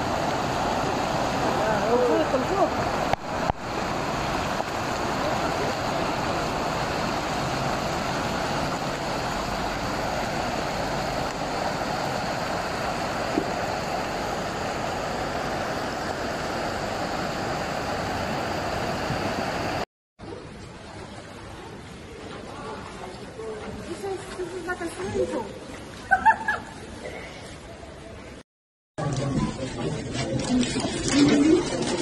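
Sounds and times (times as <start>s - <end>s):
floodwater rushing: 0.0s - 28.2s, 29.1s - 32.0s.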